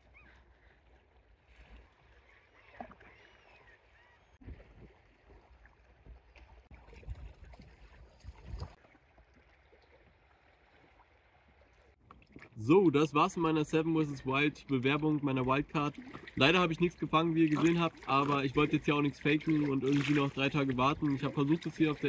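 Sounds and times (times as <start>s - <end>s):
water lapping around a boat: 0.0s - 22.0s.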